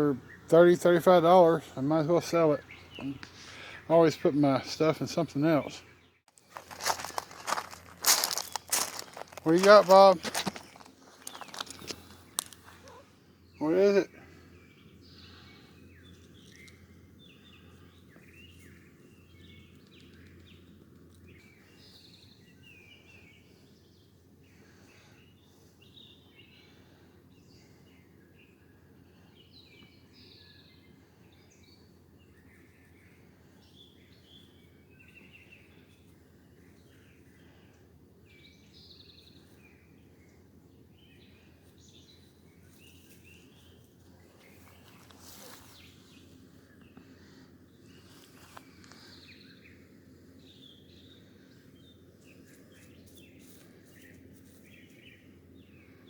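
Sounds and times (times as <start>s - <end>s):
low steady hum: 0.0s - 56.0s
songbirds chirping: 0.0s - 56.0s.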